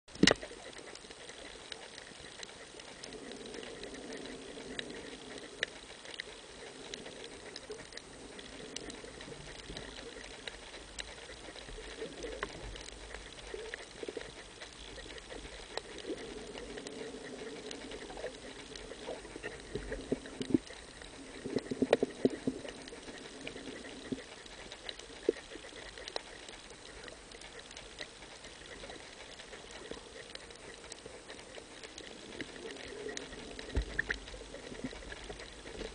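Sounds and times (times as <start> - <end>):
low underwater hiss: 0.1 - 35.9
sharp clicks and crackles: 0.1 - 35.9.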